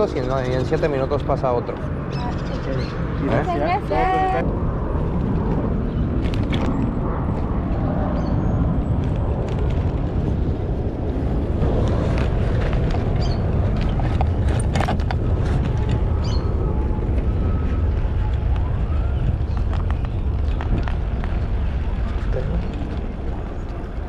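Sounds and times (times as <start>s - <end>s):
wind rumbling over microphone: 0.0s - 24.0s.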